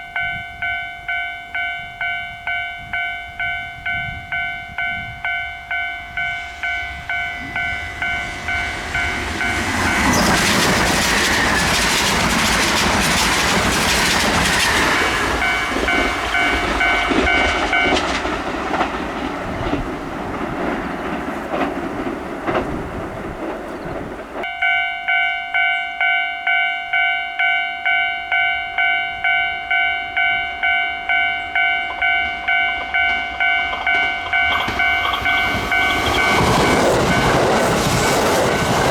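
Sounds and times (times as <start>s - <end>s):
railway crossing bell ringing: 0.0s - 20.0s, 23.7s - 38.9s
train rumble and wheel clatter: 0.0s - 25.2s, 28.4s - 38.9s.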